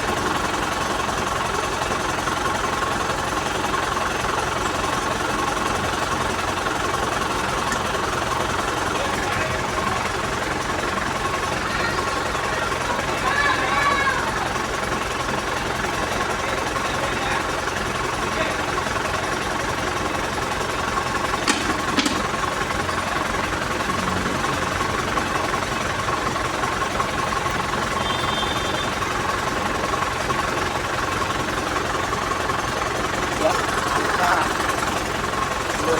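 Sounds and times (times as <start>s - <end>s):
machine rattling and whining: 0.0s - 35.9s.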